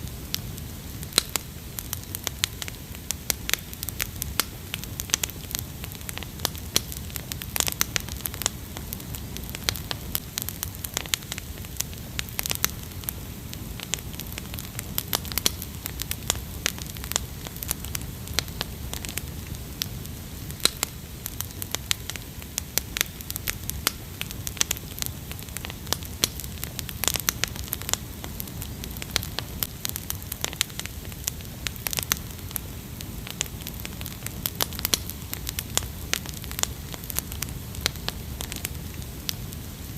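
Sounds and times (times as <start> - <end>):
rush of flames: 0.0 - 39.9
wood fire crackling: 0.0 - 39.9.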